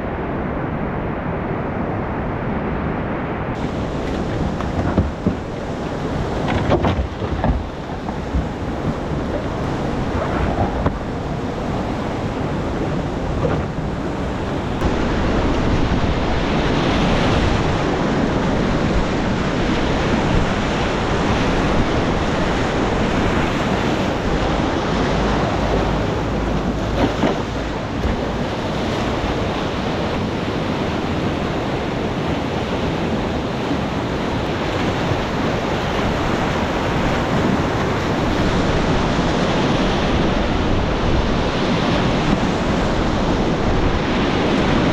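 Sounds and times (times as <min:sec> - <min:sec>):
wind buffeting microphone: 0:00.0 - 0:44.9
whitewater rapids rushing: 0:03.6 - 0:44.9.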